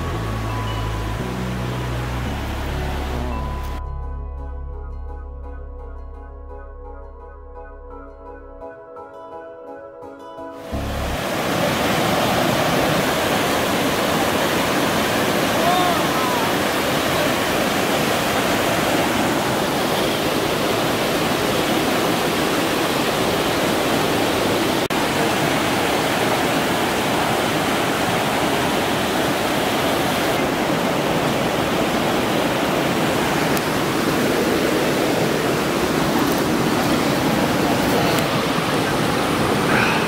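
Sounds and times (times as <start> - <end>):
mountain stream rushing over rocks: 0.0 - 3.8, 10.6 - 40.0.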